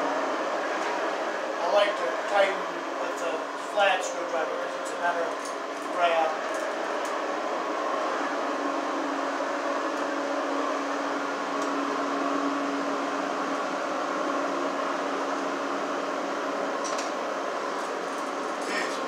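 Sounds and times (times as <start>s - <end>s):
motor droning hum: 0.0s - 19.0s.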